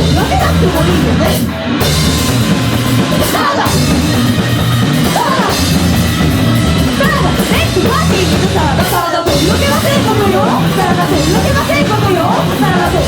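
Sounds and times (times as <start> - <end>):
drum kit: 0.0 - 13.0
electric guitars: 0.0 - 13.0
punk rock band playing live: 0.0 - 13.0.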